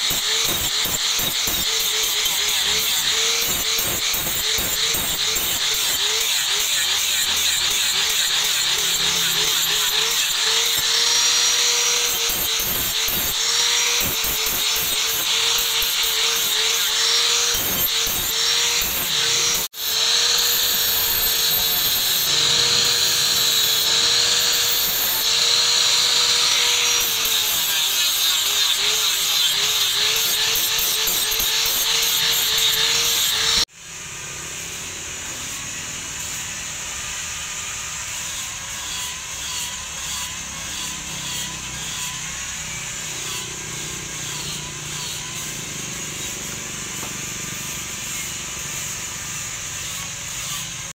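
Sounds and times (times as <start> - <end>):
angle grinder grinding steel: 0.0 - 50.9
outdoor background noise: 0.0 - 50.9.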